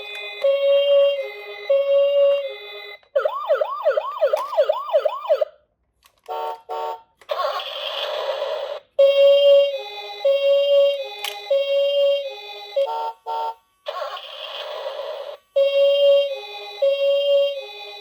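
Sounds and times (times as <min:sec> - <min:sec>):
toy electronic siren wailing: 0:00.1 - 0:05.5, 0:07.2 - 0:18.0.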